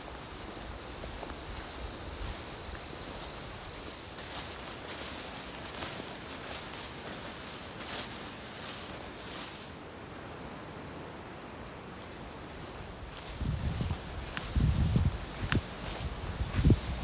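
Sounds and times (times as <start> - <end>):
rustling in dry leaves: 0.0 - 10.6, 11.7 - 17.0.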